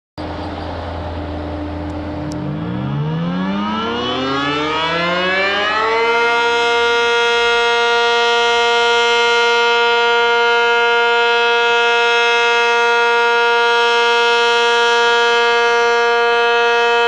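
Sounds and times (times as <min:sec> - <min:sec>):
tornado siren winding up: 0:01.1 - 0:17.0.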